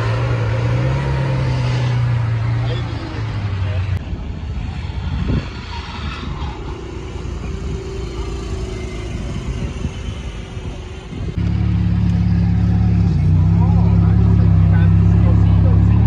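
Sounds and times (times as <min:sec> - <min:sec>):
car engines in traffic: 0:00.0 - 0:16.0.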